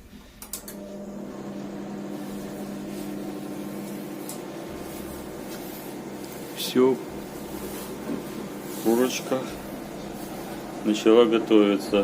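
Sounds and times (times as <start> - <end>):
microwave running hum: 0.0 - 12.0.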